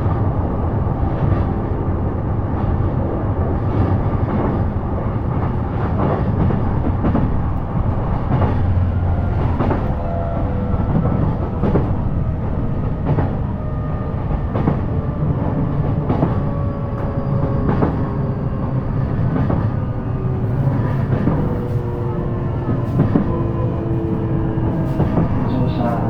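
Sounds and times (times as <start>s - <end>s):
rail joints clacking: 0.0s - 26.0s
train wheels rumbling on rail: 0.0s - 26.0s.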